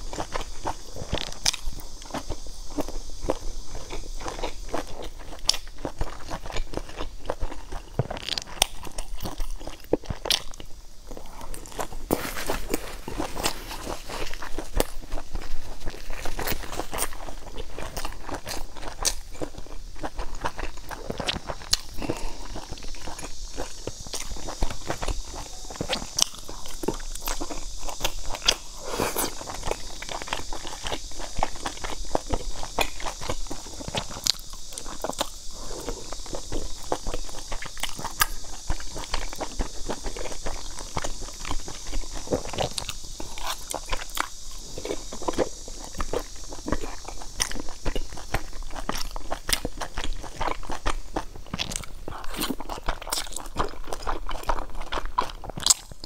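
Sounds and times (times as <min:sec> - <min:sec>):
chewing with wet smacking: 0:00.0 - 0:56.0
steady hiss: 0:00.0 - 0:56.0.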